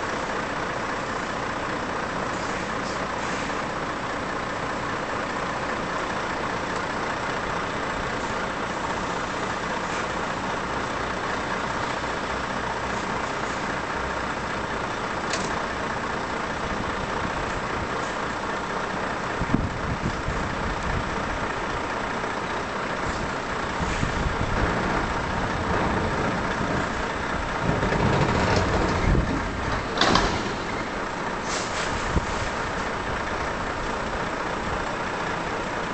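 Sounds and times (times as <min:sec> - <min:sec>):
diesel truck engine idling: 0:00.0 - 0:35.9.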